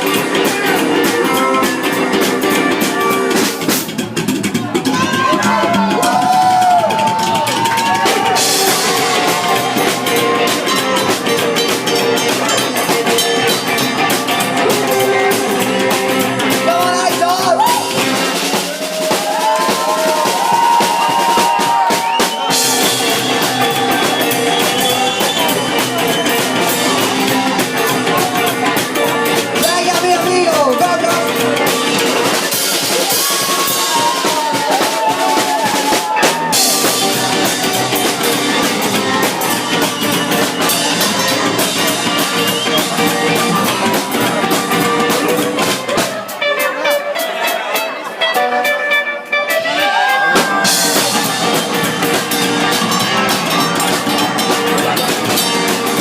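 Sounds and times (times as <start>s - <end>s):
drum kit steady beat: 0.0s - 48.8s, 49.4s - 56.0s
live rock band playing: 0.0s - 56.0s.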